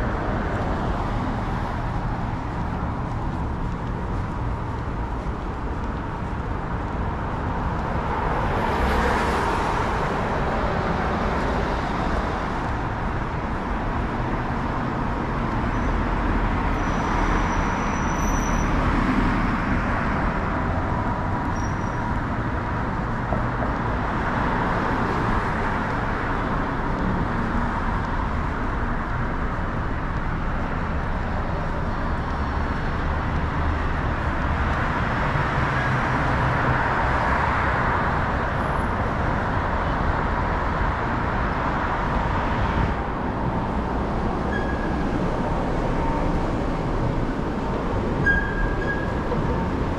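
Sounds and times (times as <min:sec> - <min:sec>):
traffic driving past: 0:00.0 - 0:49.9.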